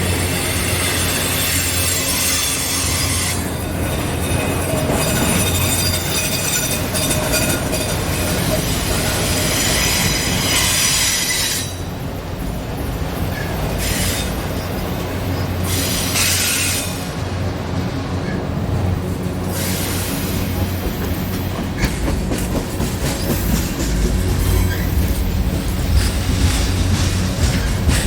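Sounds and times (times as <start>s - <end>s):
low drone of vibrating bridge: 0.0s - 28.0s.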